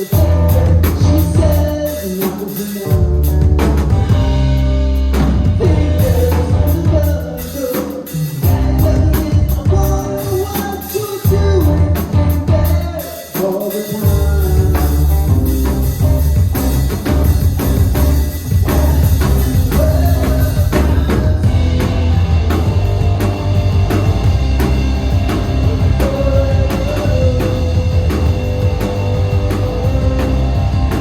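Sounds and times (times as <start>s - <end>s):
person singing: 0.0s - 4.3s, 5.5s - 16.3s, 18.0s - 22.2s, 25.2s - 31.0s
heavy bass: 0.0s - 13.1s, 14.0s - 31.0s
drum kit: 0.0s - 31.0s.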